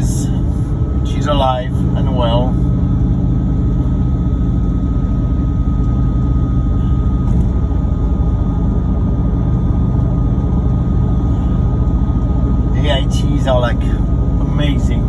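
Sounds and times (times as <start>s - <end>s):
car engine droning while driving: 0.0s - 15.0s
faint steady whine: 0.0s - 15.0s.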